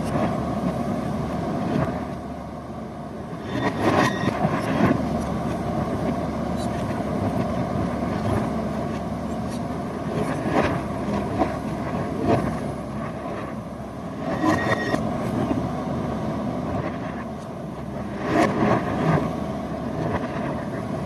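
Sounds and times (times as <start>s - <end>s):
backhoe diesel engine running: 0.0s - 21.0s.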